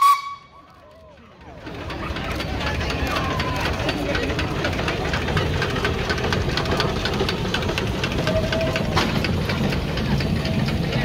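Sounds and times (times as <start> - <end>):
low engine rumble: 0.0 - 11.0
steam traction engine clanking: 0.0 - 11.0.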